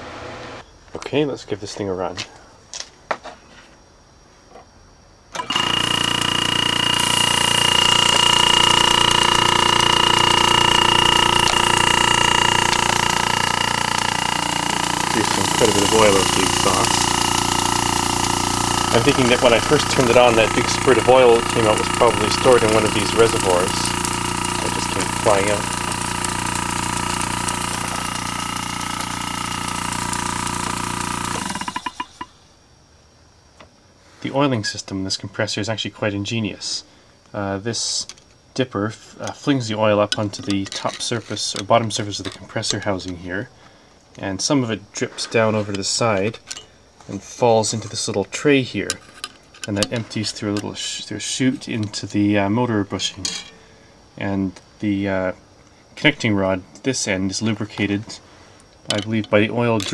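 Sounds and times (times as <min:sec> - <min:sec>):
compressor humming and whining: 0:00.0 - 0:00.6, 0:05.3 - 0:32.4, 0:38.0 - 0:59.9.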